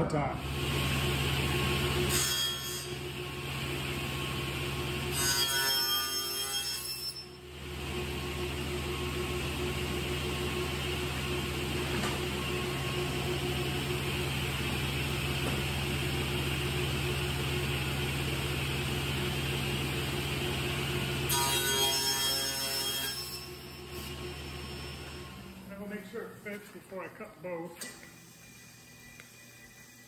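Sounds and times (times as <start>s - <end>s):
saw blade cutting whine: 0.4s - 15.2s, 16.0s - 25.8s, 27.8s - 30.0s
panel saw humming: 0.4s - 25.9s, 27.8s - 30.0s.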